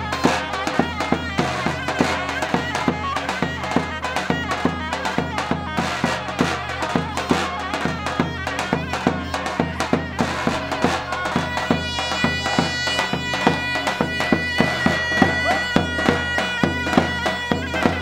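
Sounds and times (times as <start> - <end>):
shrill reedy wind melody: 0.0 - 18.0
steady drumbeat: 0.0 - 18.0.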